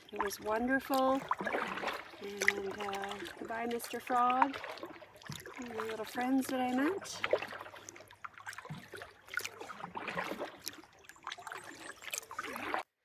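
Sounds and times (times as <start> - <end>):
water dripping off paddle: 0.0 - 12.8
canoe paddle strokes in water: 0.0 - 12.9
small water splashes: 0.0 - 13.0.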